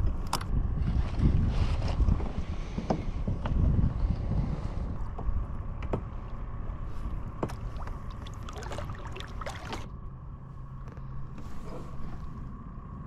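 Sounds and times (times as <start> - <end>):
wind rumble on microphone: 0.0 - 13.0
low steady hum: 2.0 - 13.0.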